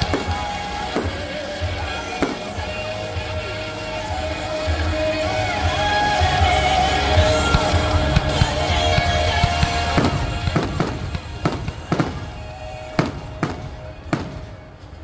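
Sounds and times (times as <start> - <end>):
fireworks bangs: 0.0 - 3.7, 6.4 - 15.0
music: 0.0 - 15.0.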